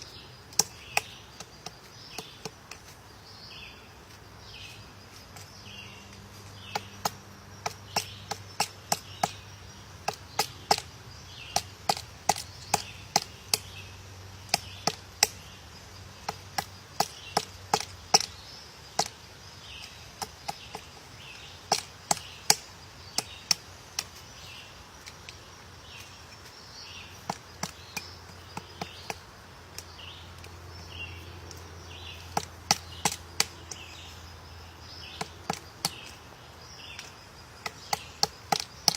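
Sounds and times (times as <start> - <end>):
woodpecker pecking wood: 0.1 - 3.1, 4.0 - 38.9.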